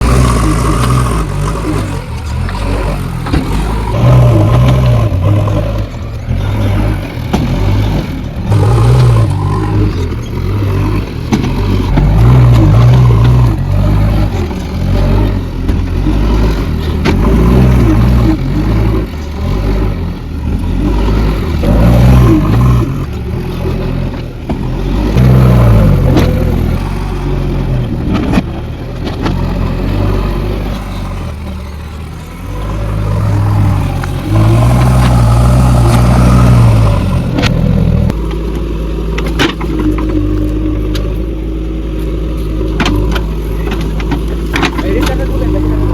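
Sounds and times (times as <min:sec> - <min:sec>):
diesel engine surging: 0:00.0 - 0:45.9.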